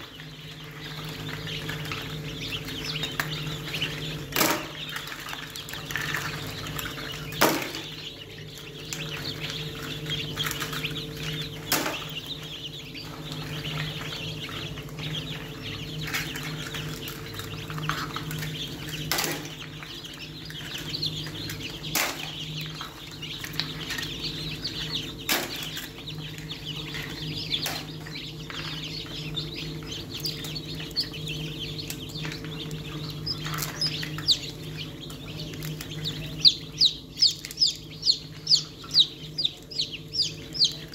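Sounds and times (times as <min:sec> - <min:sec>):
chicks peeping: 0:00.0 - 0:40.9
low machine hum: 0:00.0 - 0:40.9.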